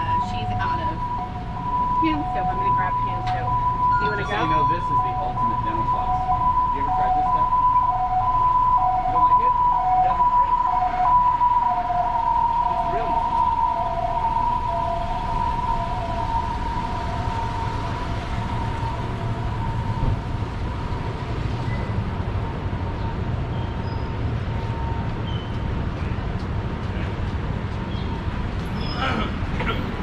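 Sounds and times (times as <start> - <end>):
continuous high tone: 0.0 - 25.6
street traffic rumble: 0.0 - 30.0.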